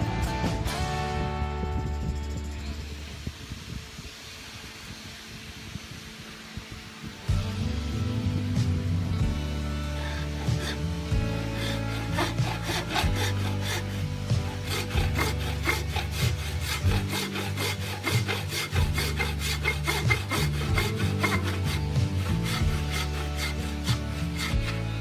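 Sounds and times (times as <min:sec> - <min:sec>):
background music with bass: 0:00.0 - 0:04.0, 0:06.7 - 0:25.0
hand tool strokes on wood: 0:03.7 - 0:25.0.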